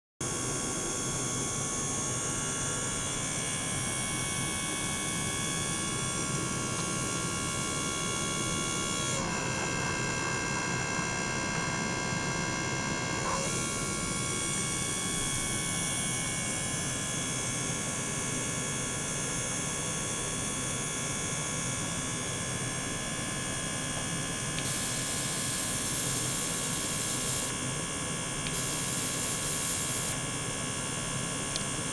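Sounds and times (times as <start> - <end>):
pump motor humming and whining: 0.2 - 31.9.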